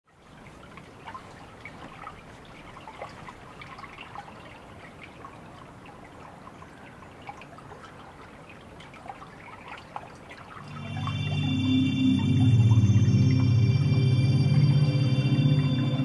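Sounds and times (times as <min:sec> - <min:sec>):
running water: 0:00.1 - 0:16.0
water dripping: 0:00.1 - 0:16.0.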